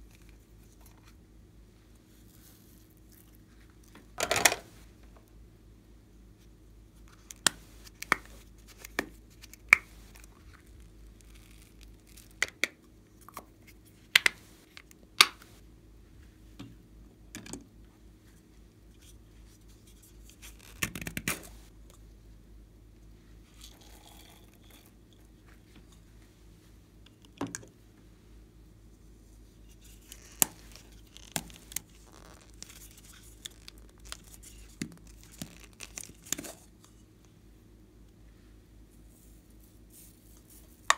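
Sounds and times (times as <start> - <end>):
steady low hum: 0.0 - 20.8, 21.4 - 40.9.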